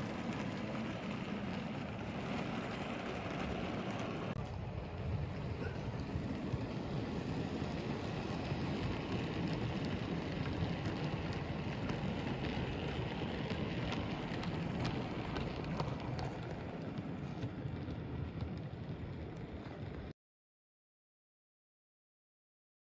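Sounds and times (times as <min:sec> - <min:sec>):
model train wheels rattling: 0:00.0 - 0:20.0.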